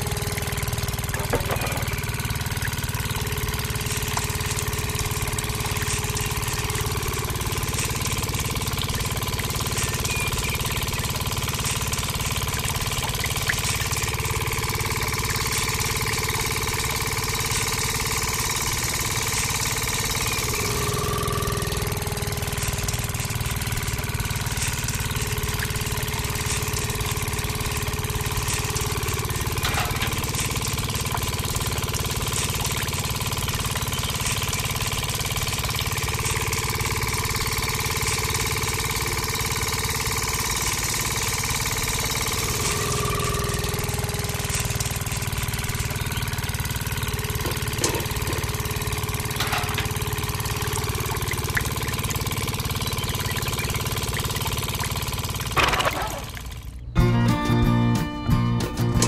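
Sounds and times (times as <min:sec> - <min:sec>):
small motor running: 0:00.0 - 0:57.0.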